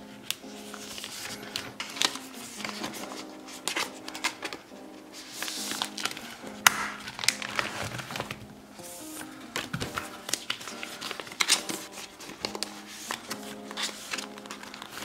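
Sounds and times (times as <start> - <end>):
soft background music: 0.0 - 15.0
plastic sleeves rustling and clicking: 0.2 - 15.0.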